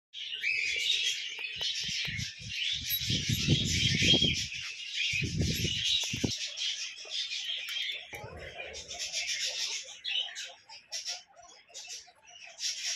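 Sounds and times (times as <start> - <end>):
small birds chirping: 0.1 - 12.9.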